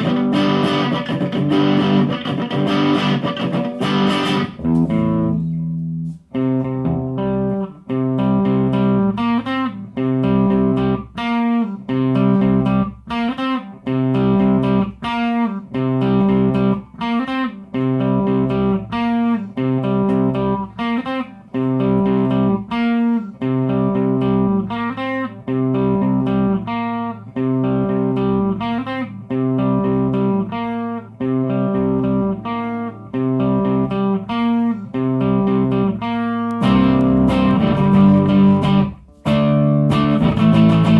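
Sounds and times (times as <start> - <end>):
electric guitar picking chords: 0.0 - 40.9.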